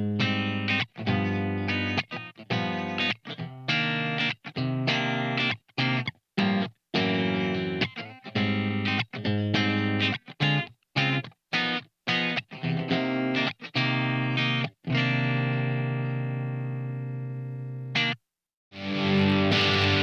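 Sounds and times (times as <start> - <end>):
clean electric guitar chords: 0.0 - 11.2, 12.1 - 18.2, 18.8 - 20.0.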